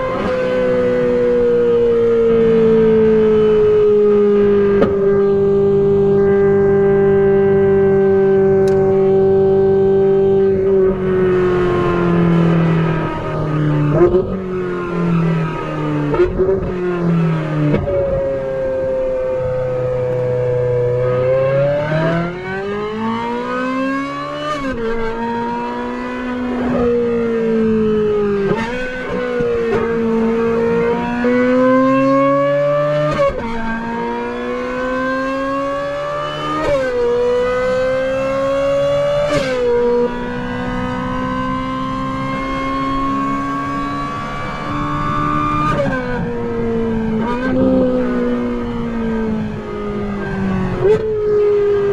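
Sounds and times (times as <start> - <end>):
car engine at full throttle: 0.0 - 51.9
engine blips on downshifts: 0.0 - 51.9.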